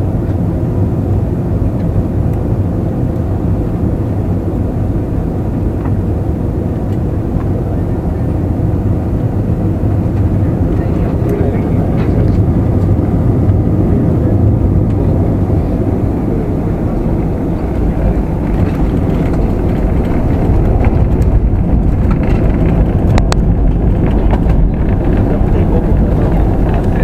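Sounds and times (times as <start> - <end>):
airliner engine and wheel rumble: 0.0 - 27.0.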